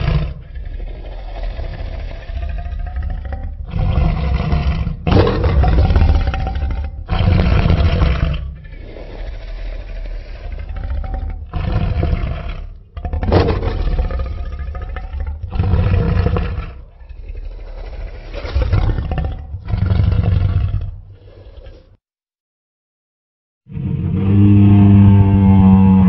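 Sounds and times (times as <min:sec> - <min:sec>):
deep dinosaur roars: 0:00.0 - 0:21.9, 0:23.7 - 0:26.0
low rumbling growls: 0:00.0 - 0:22.0, 0:23.7 - 0:26.0.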